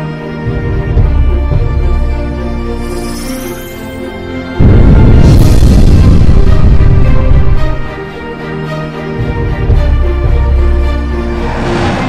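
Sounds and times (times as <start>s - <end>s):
cinematic soundtrack music: 0.0s - 12.0s.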